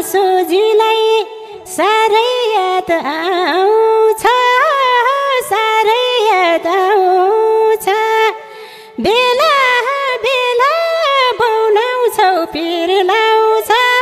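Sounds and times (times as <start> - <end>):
woman singing into a microphone: 0.0 - 14.0.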